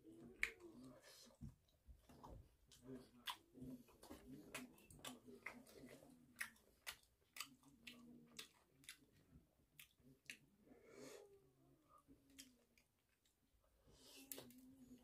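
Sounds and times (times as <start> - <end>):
person chewing food: 0.1 - 10.5, 12.2 - 15.0.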